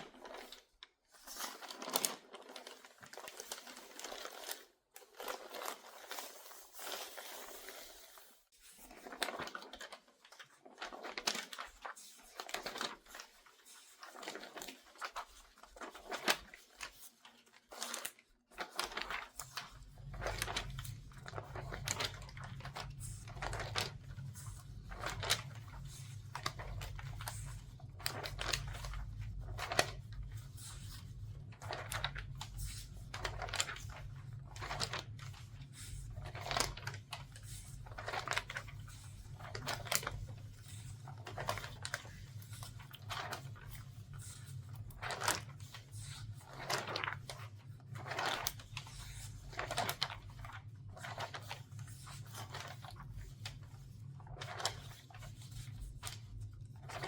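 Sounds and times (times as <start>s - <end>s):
newspaper pages rustling: 0.0s - 57.0s.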